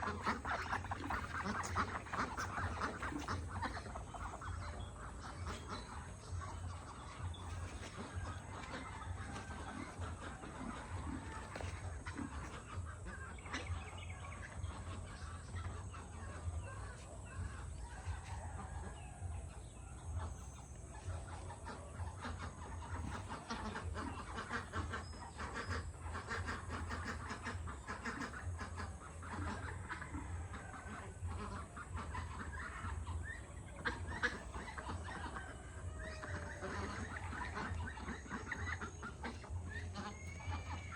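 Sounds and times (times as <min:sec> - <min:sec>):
poultry clucking: 0:00.0 - 0:40.9.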